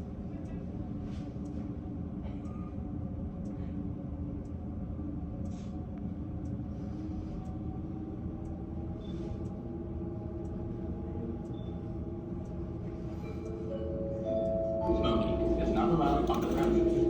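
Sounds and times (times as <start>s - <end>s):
constant hum: 0.0s - 17.0s
low mechanical rumble: 0.0s - 17.0s.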